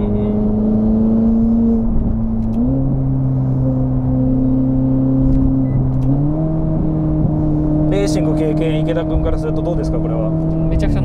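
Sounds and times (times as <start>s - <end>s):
car engine drone from inside cabin: 0.0s - 11.0s.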